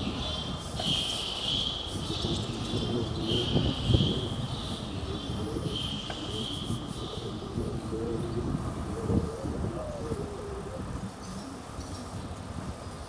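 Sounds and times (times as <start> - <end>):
steady low street rumble: 0.0 - 13.0.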